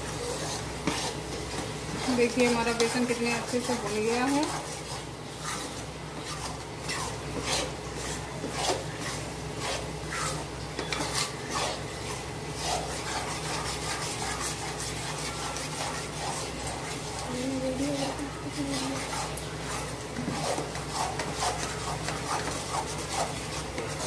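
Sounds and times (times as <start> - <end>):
metal spatula scraping a pan: 0.0 - 24.0.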